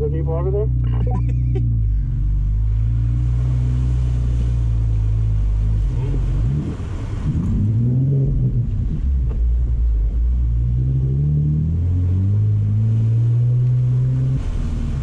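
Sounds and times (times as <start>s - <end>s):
truck engine revving: 0.0s - 15.0s
water splashing against vehicle: 0.0s - 15.0s.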